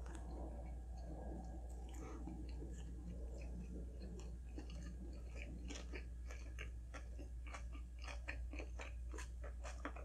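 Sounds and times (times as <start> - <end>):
low steady hum: 0.0 - 10.0
wet chewing mouth clicks: 0.0 - 10.0.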